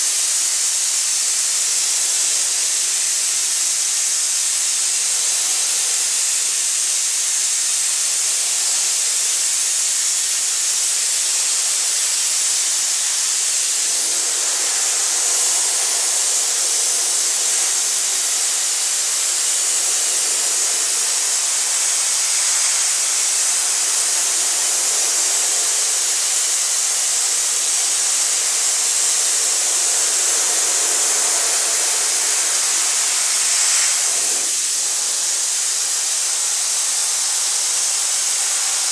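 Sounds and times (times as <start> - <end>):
abrasive blasting hiss: 0.0 - 38.9.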